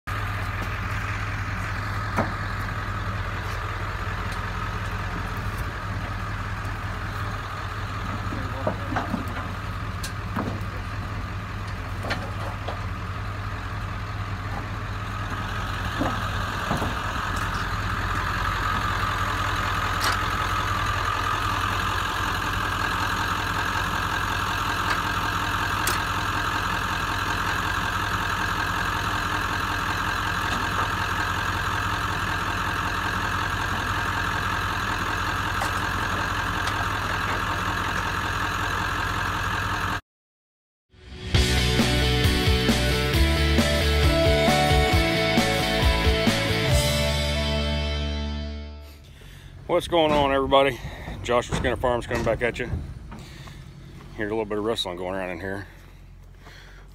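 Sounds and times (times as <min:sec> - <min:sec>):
pickup truck engine idling: 0:00.1 - 0:40.0, 0:41.3 - 0:56.9.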